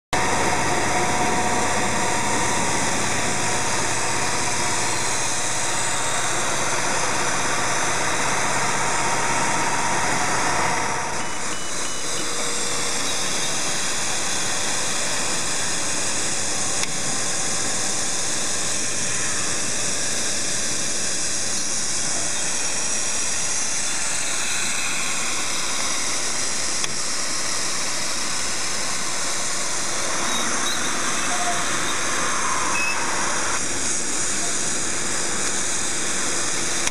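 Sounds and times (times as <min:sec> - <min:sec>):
machinery running: 0:00.1 - 0:36.9.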